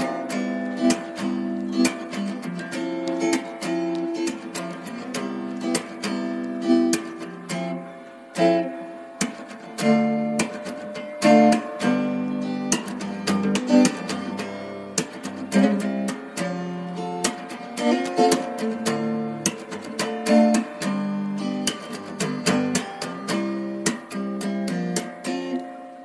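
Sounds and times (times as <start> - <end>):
acoustic guitar strumming and picking: 0.0 - 26.0.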